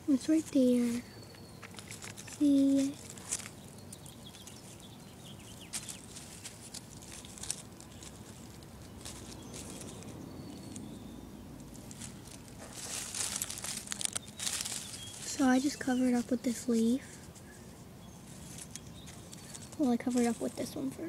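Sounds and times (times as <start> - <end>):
light rustles and clicks: 0.3 - 10.9, 11.6 - 17.5, 18.3 - 21.0.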